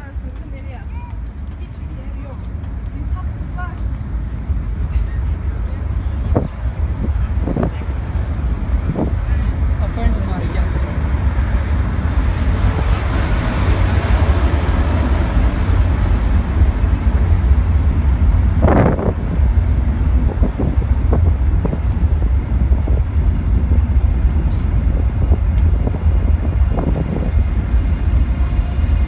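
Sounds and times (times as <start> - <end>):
train clatter: 0.0 - 29.0
train rumbling over a bridge: 0.0 - 29.0.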